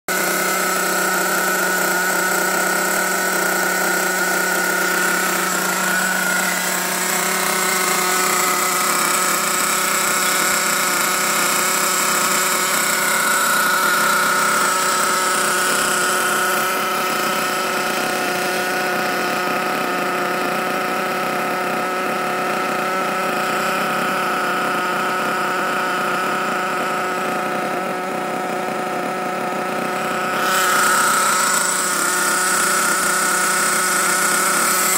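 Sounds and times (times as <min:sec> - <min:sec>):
small nitro engine idling: 0:00.1 - 0:34.9.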